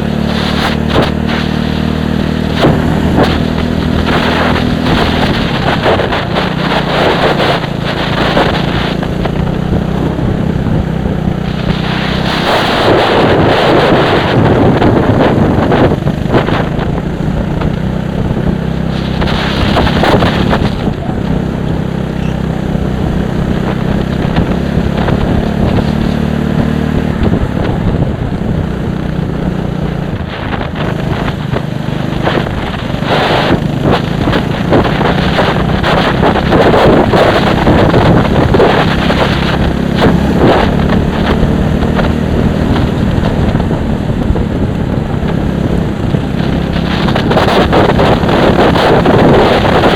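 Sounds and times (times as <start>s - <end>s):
vehicle engine running: 0.0s - 49.9s
wind buffeting microphone: 0.0s - 49.9s.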